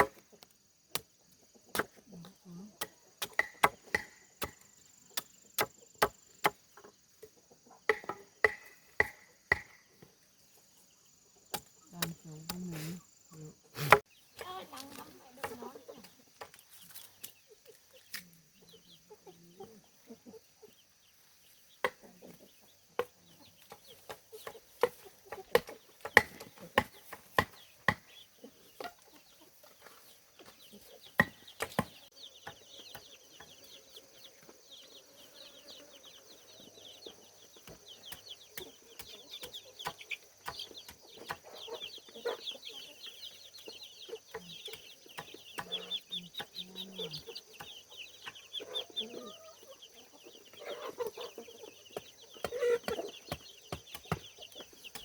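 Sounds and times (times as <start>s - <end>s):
chicks peeping: 0.8s - 55.0s
chicken clucking: 6.8s - 10.9s, 11.9s - 55.0s.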